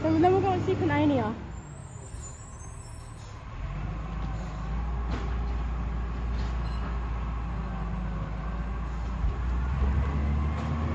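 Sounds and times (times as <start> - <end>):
garbage truck engine rumble: 0.0 - 10.9.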